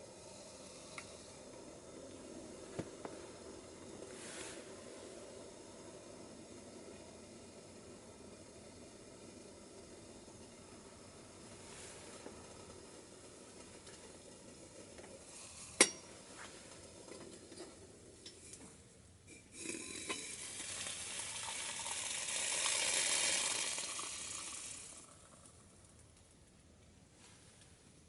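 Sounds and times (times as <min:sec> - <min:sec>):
sizzling hiss: 0:00.0 - 0:17.4, 0:19.3 - 0:25.8.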